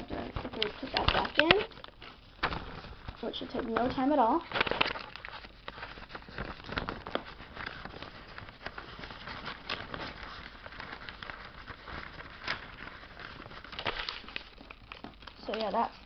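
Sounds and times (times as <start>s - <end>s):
paper pages rustling: 0.0s - 16.0s.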